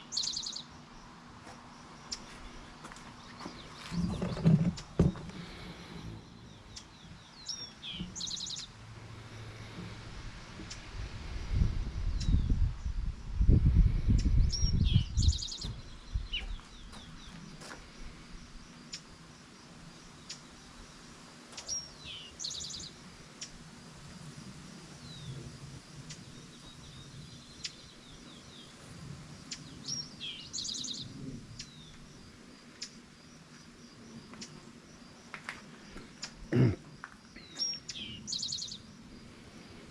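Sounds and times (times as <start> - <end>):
songbird singing trill: 0.0 - 1.2, 1.9 - 9.8, 12.0 - 19.2, 20.0 - 23.6, 24.9 - 28.8, 29.4 - 39.8.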